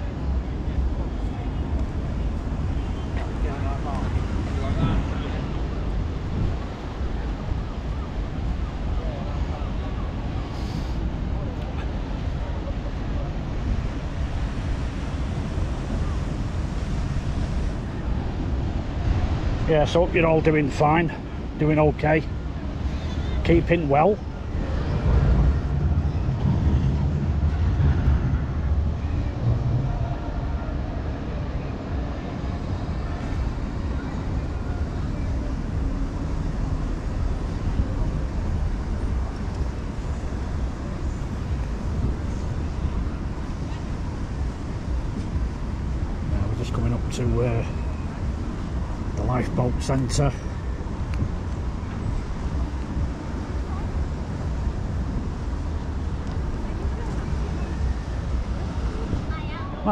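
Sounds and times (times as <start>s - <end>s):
wind buffeting the microphone: 0.0s - 59.9s.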